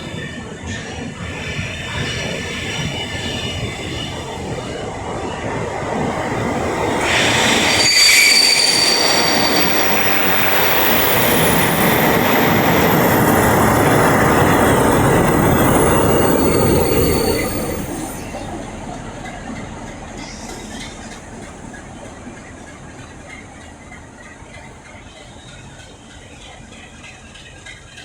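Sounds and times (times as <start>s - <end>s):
train moving: 0.0s - 28.0s
train wheels squealing on rails: 0.0s - 28.0s.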